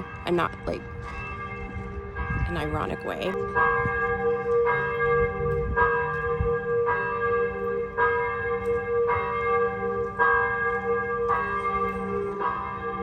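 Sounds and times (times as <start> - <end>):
church bell tolling: 0.0 - 13.0.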